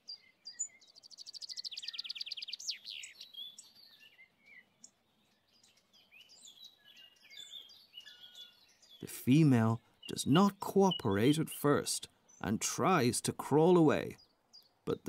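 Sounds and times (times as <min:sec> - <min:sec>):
faint bird chirps: 0:00.0 - 0:12.6
songbird trill: 0:00.0 - 0:15.0.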